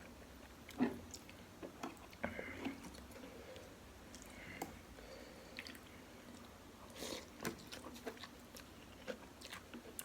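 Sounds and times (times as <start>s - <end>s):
person chewing food: 0.0s - 4.8s, 5.4s - 10.0s.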